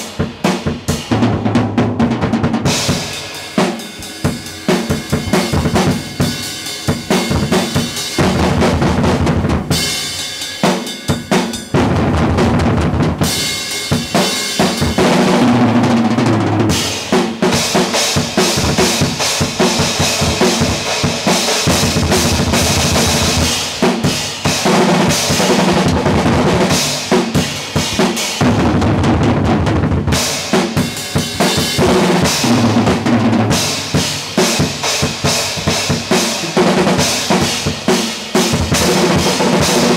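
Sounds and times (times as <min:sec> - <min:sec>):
drum kit played fast: 0:00.0 - 0:39.9.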